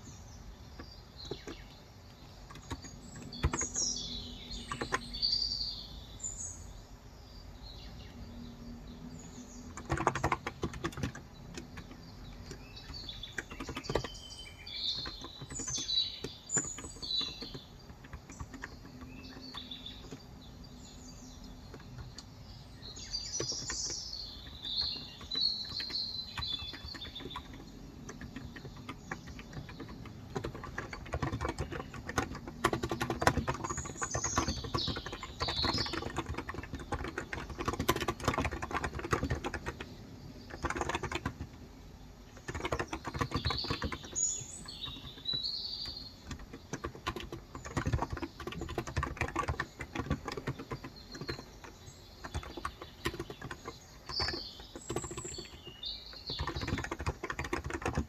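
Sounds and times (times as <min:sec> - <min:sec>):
birds chirping: 0:00.0 - 0:58.0
keyboard typing: 0:00.7 - 0:05.2, 0:09.0 - 0:58.0.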